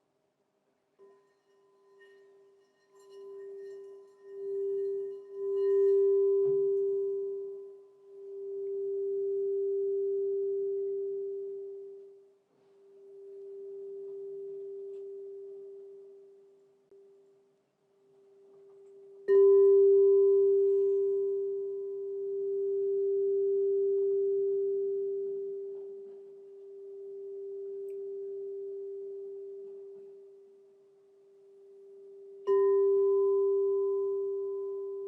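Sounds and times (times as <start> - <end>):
singing bowl low tone: 1.0 - 17.3, 18.3 - 35.0.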